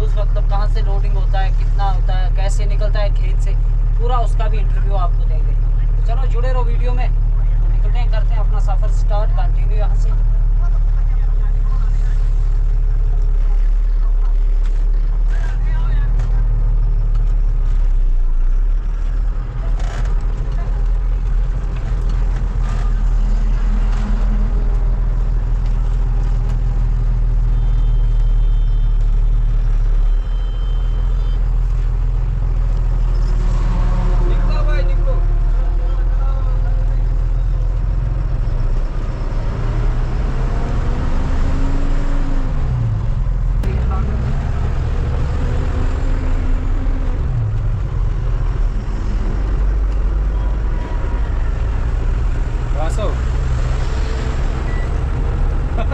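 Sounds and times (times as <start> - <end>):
road rumble: 0.0 - 55.9
truck diesel engine drone in cab: 0.0 - 55.9.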